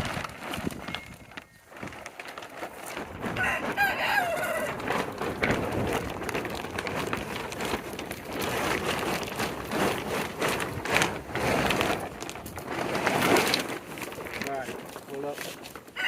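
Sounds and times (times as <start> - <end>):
plastic tarp rustling: 0.0 - 16.0.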